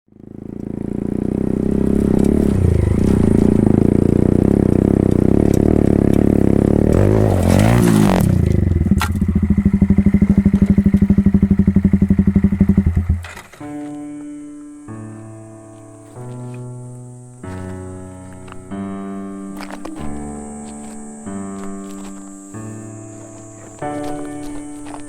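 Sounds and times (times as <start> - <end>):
motorcycle engine revving and idling: 0.1 - 13.6, 17.1 - 25.0.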